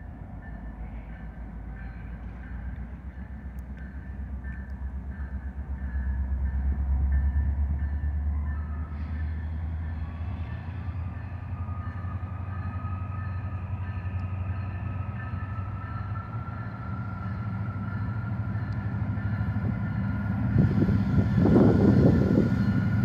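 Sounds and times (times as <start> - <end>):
diesel locomotives rumbling: 0.0 - 23.0.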